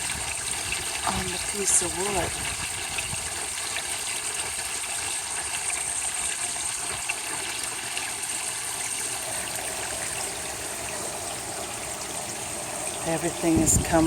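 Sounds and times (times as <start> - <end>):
water running and trickling: 0.0 - 14.0.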